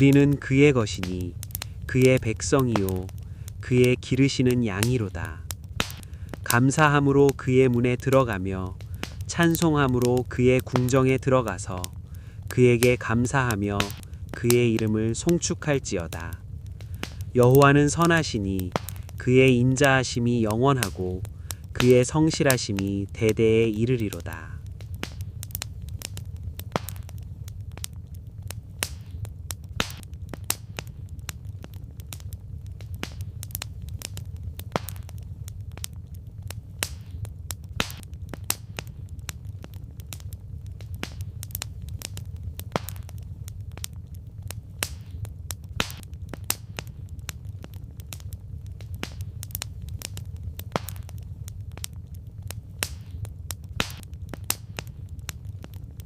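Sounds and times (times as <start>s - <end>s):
low rumble: 0.0s - 56.0s
wood fire crackling: 0.0s - 56.0s.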